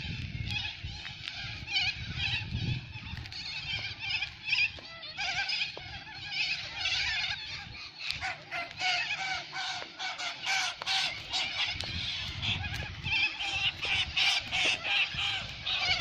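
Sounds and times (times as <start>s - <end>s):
birds chattering calls: 0.0s - 16.0s.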